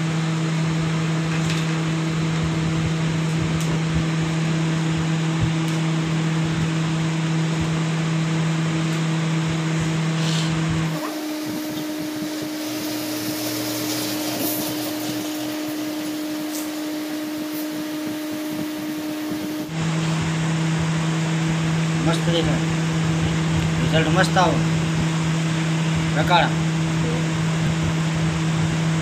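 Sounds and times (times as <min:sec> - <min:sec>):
electric machine humming: 0:00.0 - 0:29.0.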